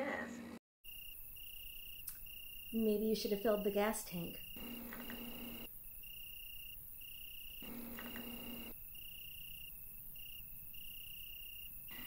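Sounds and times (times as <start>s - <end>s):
crickets chirping: 0.8s - 12.0s.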